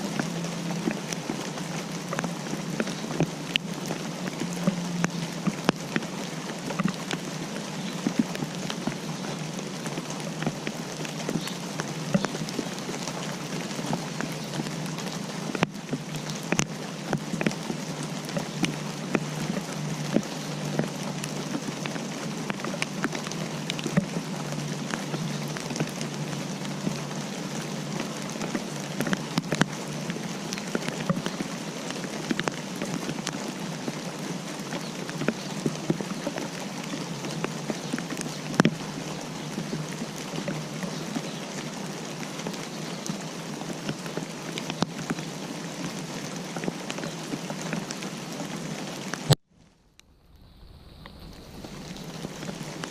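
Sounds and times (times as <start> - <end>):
raindrops ticking on hard surface: 0.0 - 52.9.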